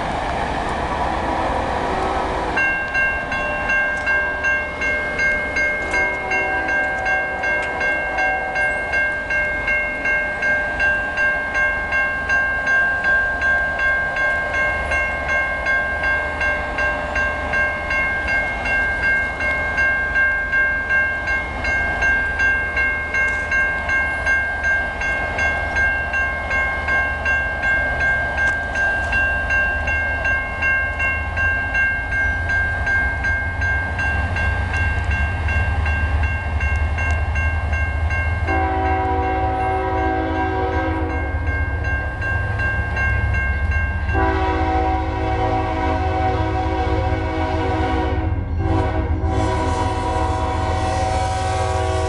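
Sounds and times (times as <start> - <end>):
crossing bell ringing: 0.0 - 52.0
low train rumble: 0.0 - 52.0.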